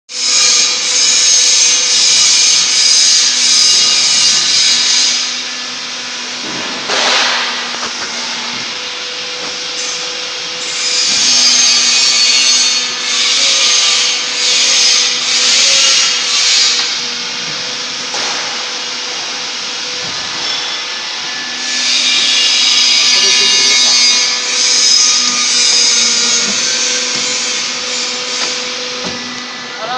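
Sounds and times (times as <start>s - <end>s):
harsh pulsing rasping machinery: 0.2s - 29.9s.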